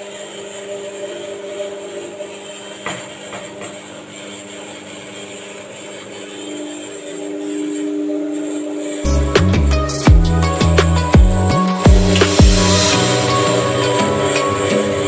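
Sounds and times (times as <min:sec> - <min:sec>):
floor scrubber motor humming: 0:00.0 - 0:15.0.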